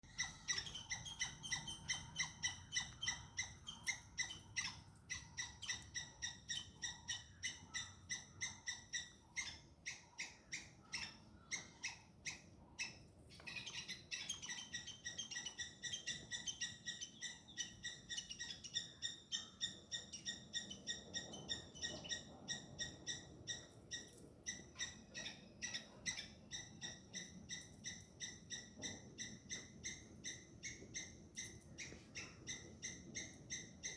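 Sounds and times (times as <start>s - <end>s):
squirrel alarm chirps: 0.0s - 33.9s.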